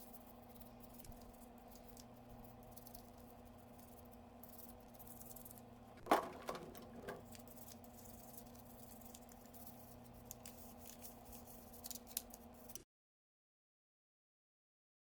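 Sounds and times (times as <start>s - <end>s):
faint steady hum: 0.0s - 12.8s.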